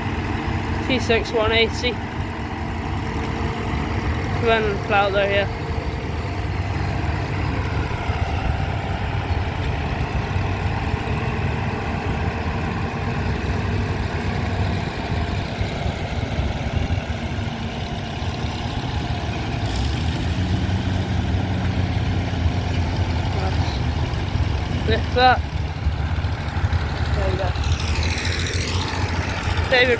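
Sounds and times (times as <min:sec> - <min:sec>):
tractor diesel engine revving: 0:00.0 - 0:29.9.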